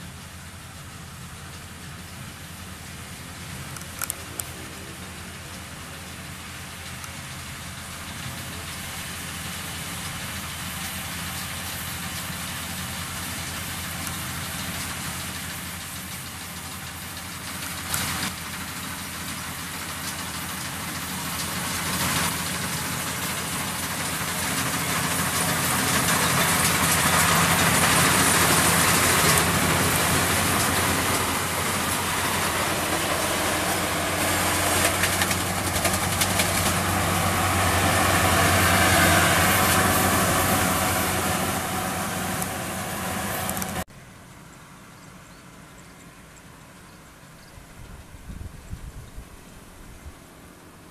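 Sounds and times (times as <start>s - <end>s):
combine harvester engine running: 0.0s - 50.9s.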